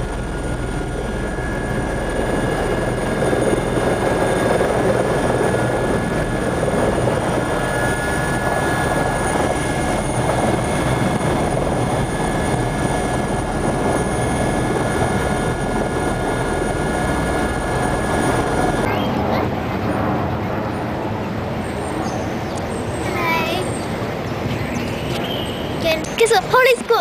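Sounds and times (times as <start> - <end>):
faint high whine: 0.0 - 27.0
helicopter engine and rotors droning: 0.0 - 27.0.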